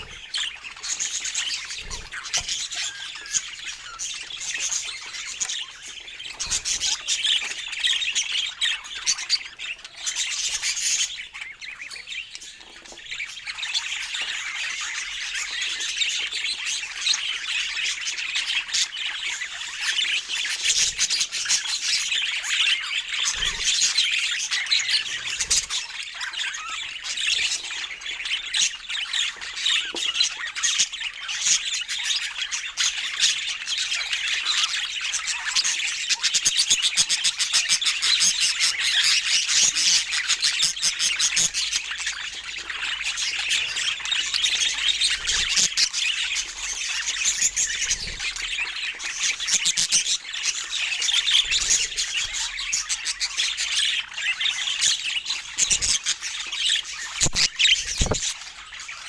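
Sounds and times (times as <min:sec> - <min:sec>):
budgerigars chattering and squawking: 0:00.0 - 0:59.0.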